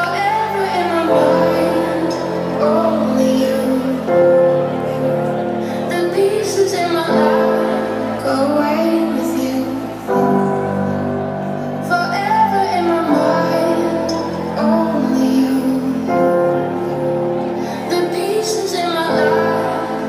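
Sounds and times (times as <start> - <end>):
held synth chords: 0.0 - 20.0
sung vocal melody: 0.0 - 20.0.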